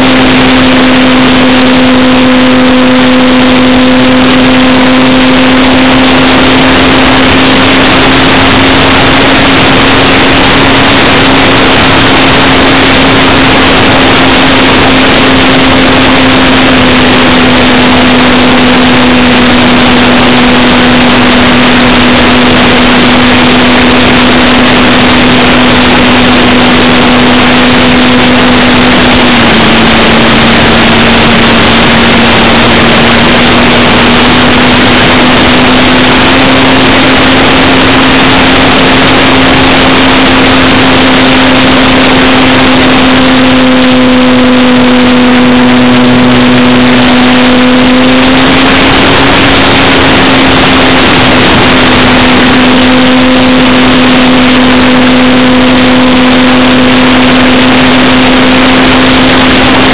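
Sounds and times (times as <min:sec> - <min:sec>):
model plane motor droning: 0:00.0 - 0:59.9.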